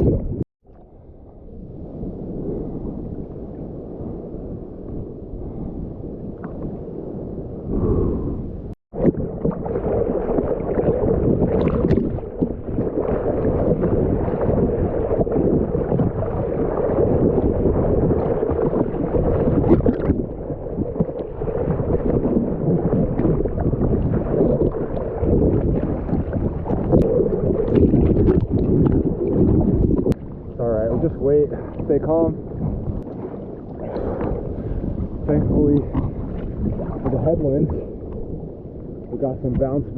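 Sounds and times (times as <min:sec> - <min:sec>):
ocean water splashing: 0:00.0 - 0:39.9.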